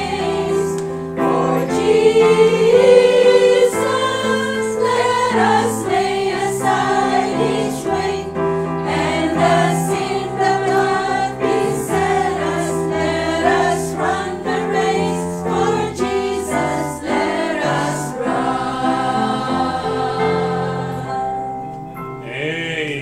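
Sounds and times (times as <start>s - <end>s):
women's choir singing a hymn: 0.0s - 21.6s.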